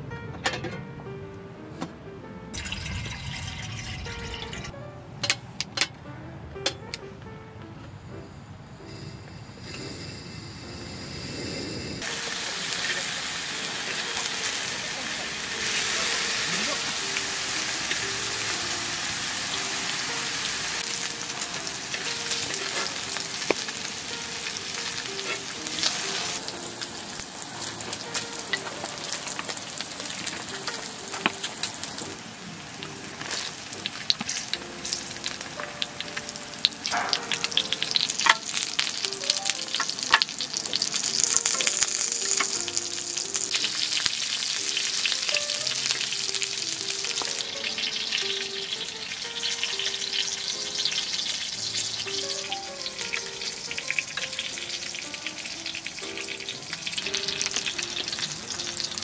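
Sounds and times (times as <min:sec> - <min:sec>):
soft background music: 0:00.0 - 0:59.0
food sizzling in a pan: 0:02.6 - 0:04.7, 0:08.9 - 0:59.0.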